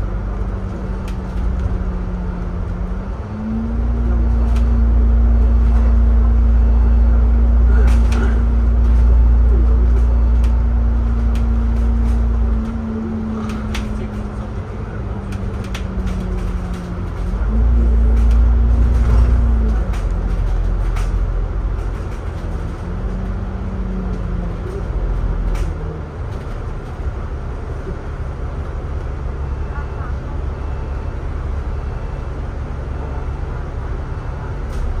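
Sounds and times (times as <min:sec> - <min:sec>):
bus engine rumbling: 0:00.0 - 0:35.0.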